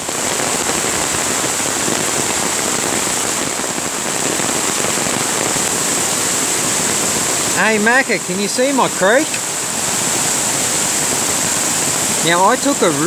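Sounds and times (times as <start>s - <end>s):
creek rushing in flood: 0.0s - 13.0s.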